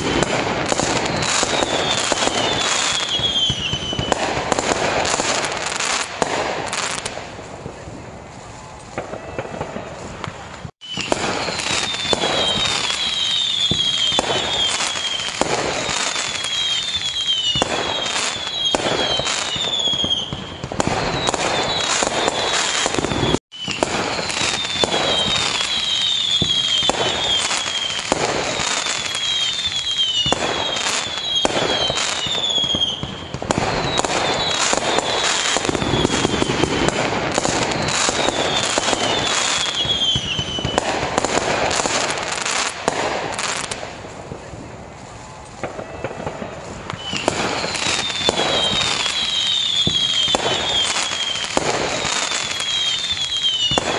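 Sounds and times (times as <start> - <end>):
falling firework whistles: 0.0 - 53.9
fireworks bangs and crackling: 0.0 - 53.9.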